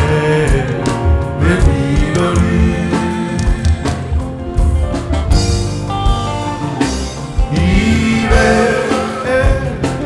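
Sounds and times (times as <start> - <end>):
church band music with drums: 0.0 - 10.0.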